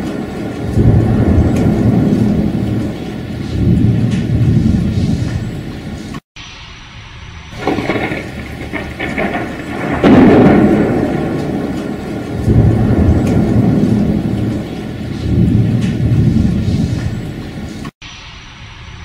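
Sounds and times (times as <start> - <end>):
steady rain: 0.0 - 6.2, 7.5 - 19.0
thunder rumbling: 0.0 - 6.2, 7.0 - 17.9.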